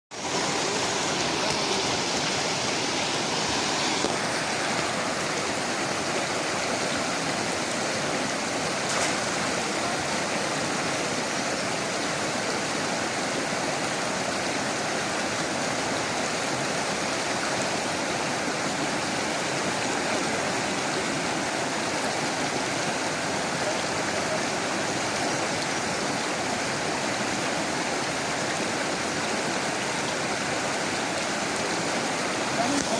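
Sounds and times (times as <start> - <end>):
flowing water rushing: 0.1 - 32.9.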